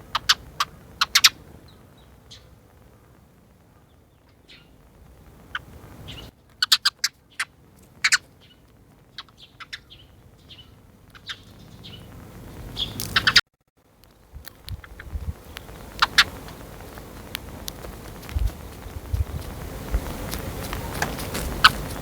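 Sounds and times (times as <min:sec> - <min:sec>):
sparrow chirping: 0:00.0 - 0:04.8, 0:05.4 - 0:13.4, 0:14.6 - 0:22.0.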